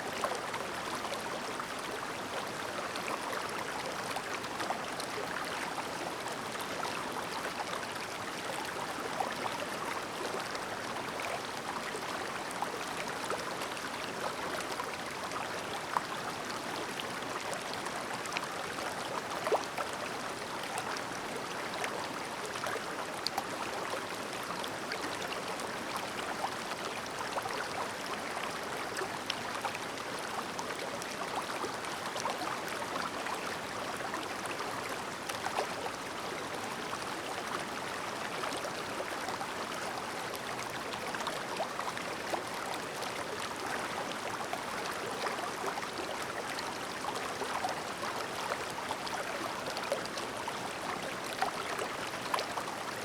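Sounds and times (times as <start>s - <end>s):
mountain stream babbling: 0.0s - 53.0s.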